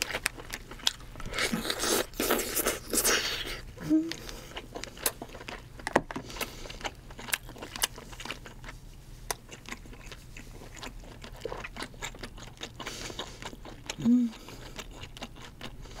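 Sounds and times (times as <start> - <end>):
chewing crab meat: 0.0 - 16.0.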